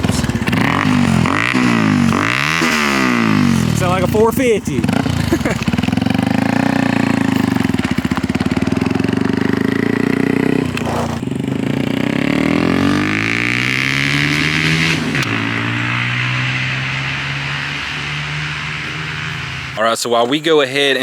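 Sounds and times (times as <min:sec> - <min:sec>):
small engine revving: 0:00.0 - 0:19.8.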